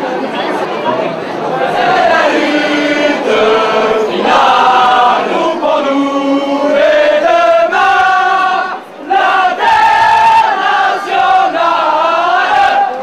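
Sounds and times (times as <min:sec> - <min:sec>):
crowd chanting in unison: 0:00.4 - 0:13.0.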